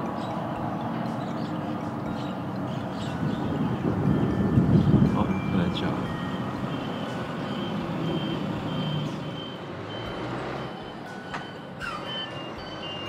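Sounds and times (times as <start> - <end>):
low engine rumble: 0.0 - 13.0
reversing alarm beeping: 0.0 - 13.0.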